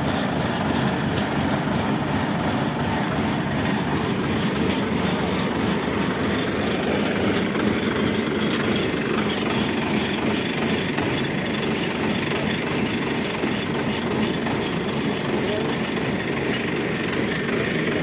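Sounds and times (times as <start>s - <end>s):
combine harvester engine running: 0.0s - 18.0s.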